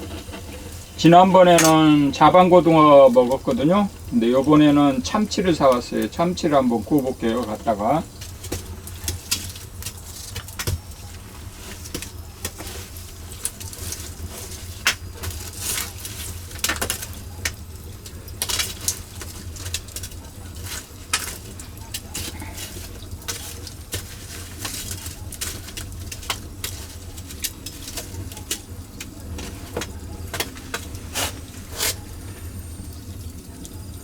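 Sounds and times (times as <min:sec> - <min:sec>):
dishes and utensils clattering: 0:00.0 - 0:33.9
steady low hum: 0:00.0 - 0:34.0.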